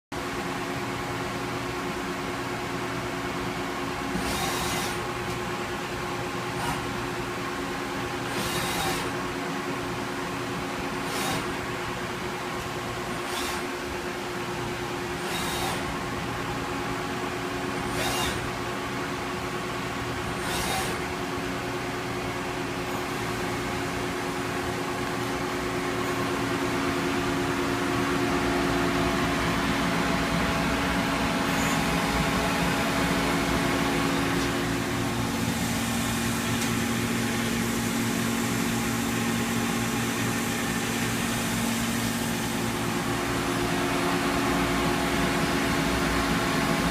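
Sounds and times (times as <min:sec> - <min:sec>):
lathe machine hum: 0:00.2 - 0:46.9.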